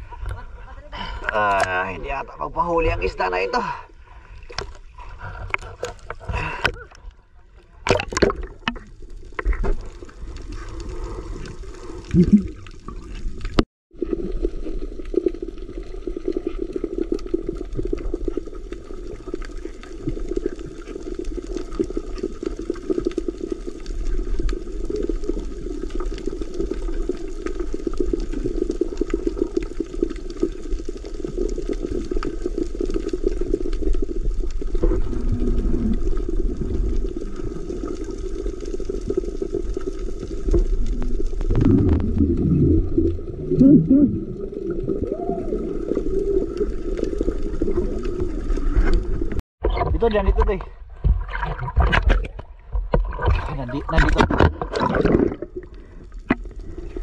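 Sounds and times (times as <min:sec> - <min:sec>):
muffled underwater rush: 0:00.0 - 0:57.0.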